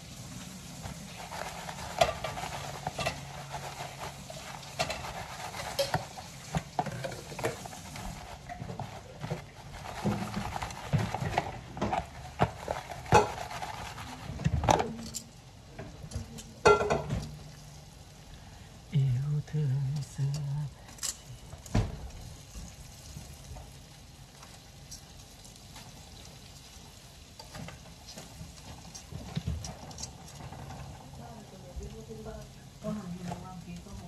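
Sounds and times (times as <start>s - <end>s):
cutlets sizzling in hot oil: 0.0s - 18.9s, 19.9s - 34.0s.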